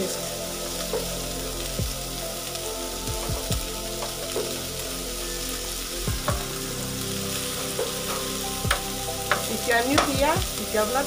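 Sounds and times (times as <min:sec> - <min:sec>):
background music with held notes: 0:00.0 - 0:11.0
meat sizzling in a grill pan: 0:00.0 - 0:11.0.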